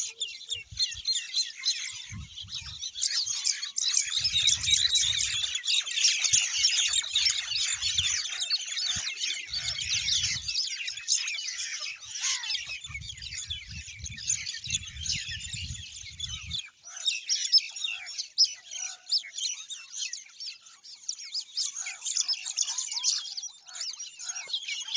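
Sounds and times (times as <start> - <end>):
flock of small birds chirping: 0.0 - 24.9.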